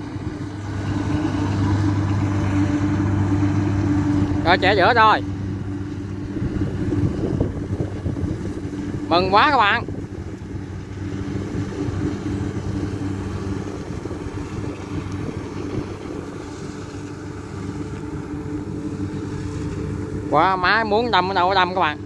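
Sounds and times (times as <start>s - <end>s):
combine harvester engine running: 0.0s - 22.0s.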